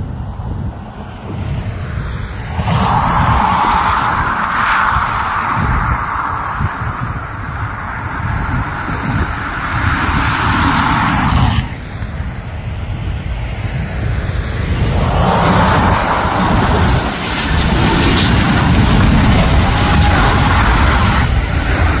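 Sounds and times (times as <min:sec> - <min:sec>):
jet engine noise: 0:00.0 - 0:22.0
wind rumble on microphone: 0:00.0 - 0:22.0.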